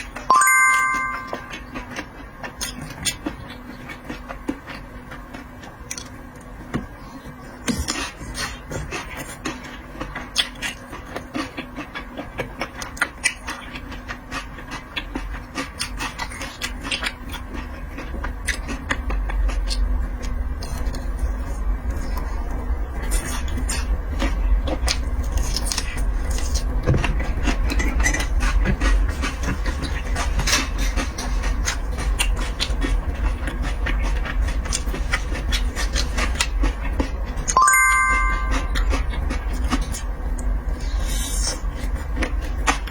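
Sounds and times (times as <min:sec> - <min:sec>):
chewing with clicks and crackles: 0:01.4 - 0:42.9.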